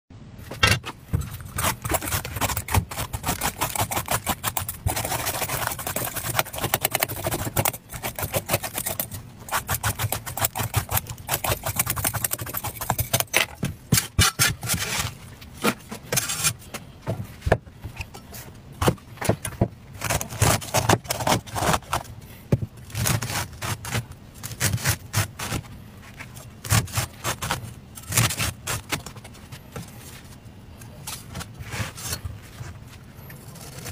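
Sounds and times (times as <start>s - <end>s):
cleaver scraping gourd skin: 0.8s - 16.6s, 20.0s - 22.1s, 22.8s - 33.9s.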